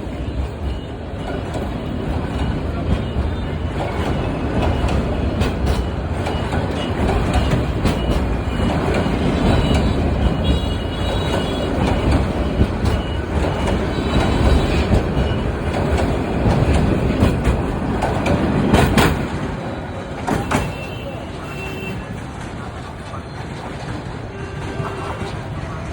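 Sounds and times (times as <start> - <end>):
train wheels rumbling on rails: 0.0 - 25.9.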